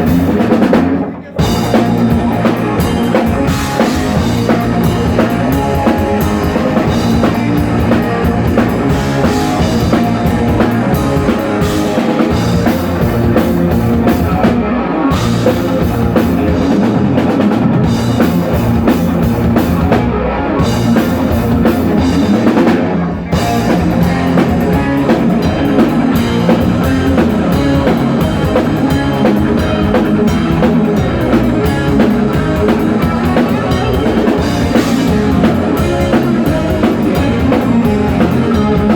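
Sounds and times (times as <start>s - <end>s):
electric guitars: 0.0s - 38.9s
heavy metal band playing live: 0.0s - 38.9s
pounding drum kit: 0.0s - 38.9s.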